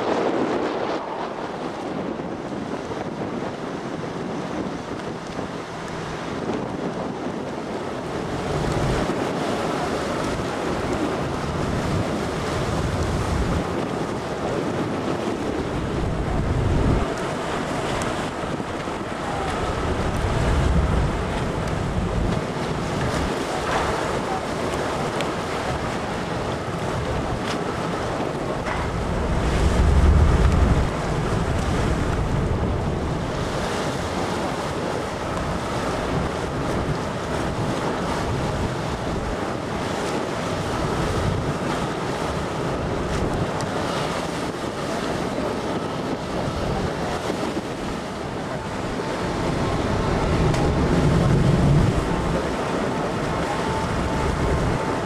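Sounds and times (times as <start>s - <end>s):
churning water: 0.0s - 55.0s
ferry engines rumbling: 0.0s - 55.0s
wind buffeting microphone: 0.0s - 55.0s.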